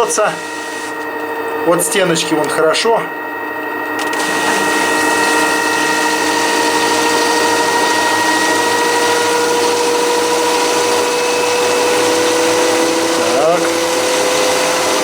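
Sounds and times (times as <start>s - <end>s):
washing machine spinning whine: 0.0s - 15.0s.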